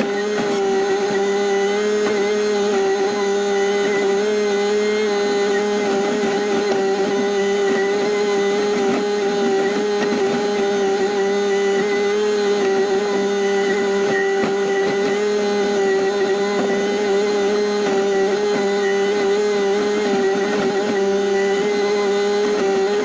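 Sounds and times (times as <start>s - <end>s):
constant high whine: 0.0s - 23.0s
excavator engine and hydraulics: 0.0s - 23.0s.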